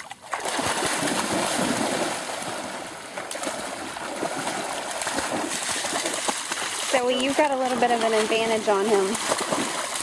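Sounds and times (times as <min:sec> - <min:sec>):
dogs splashing in water: 0:00.0 - 0:10.0.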